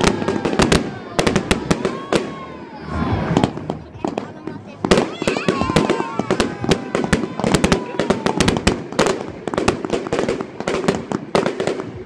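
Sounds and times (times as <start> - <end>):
firework aerial bursts: 0.0 - 12.0
firework crackle: 0.0 - 12.0.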